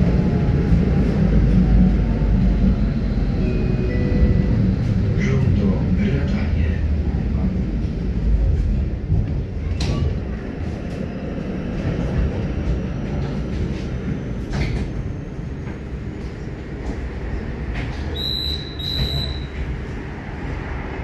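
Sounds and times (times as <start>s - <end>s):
tram rumbling on rails: 0.0s - 21.0s.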